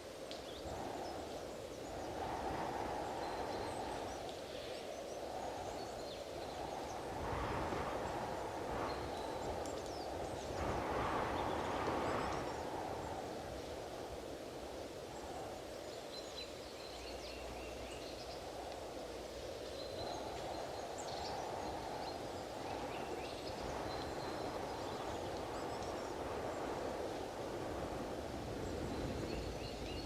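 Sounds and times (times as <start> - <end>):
strong wind gusts: 0.0 - 30.0.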